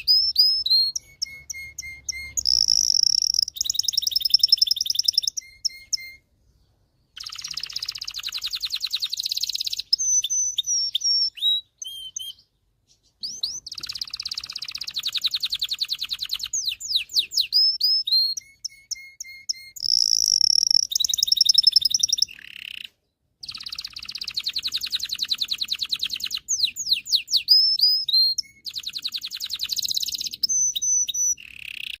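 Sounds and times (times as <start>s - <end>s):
canary singing: 0.0s - 32.0s.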